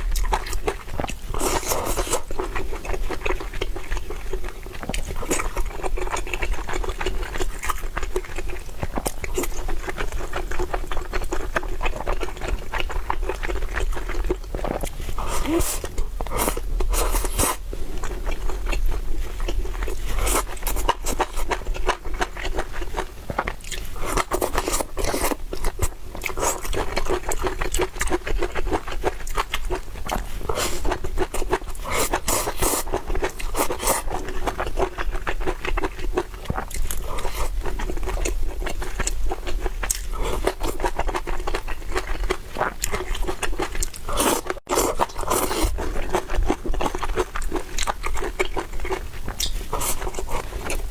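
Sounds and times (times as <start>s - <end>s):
chewing and crunching: 0.0s - 50.9s.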